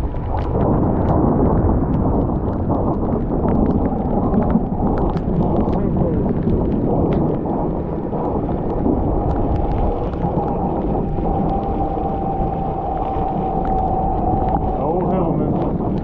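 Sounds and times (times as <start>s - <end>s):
bicycle rolling noise: 0.0s - 16.0s
scattered ticks: 0.0s - 16.0s
wind rushing over microphone: 0.0s - 16.0s
steady whine: 2.3s - 16.0s.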